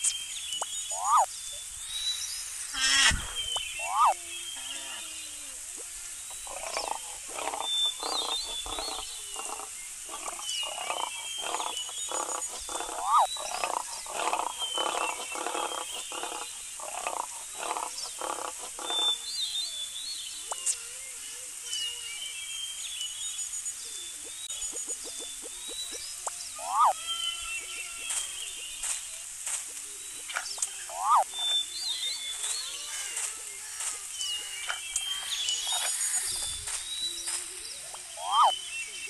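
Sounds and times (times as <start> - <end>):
bird chirps: 0.0 - 5.6, 6.3 - 39.0.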